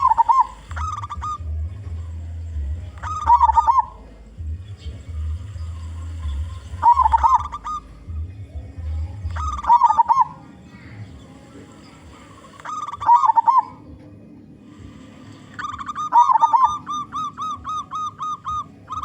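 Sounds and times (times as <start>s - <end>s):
dove cooing: 0.0s - 19.0s
low hum: 0.0s - 19.0s.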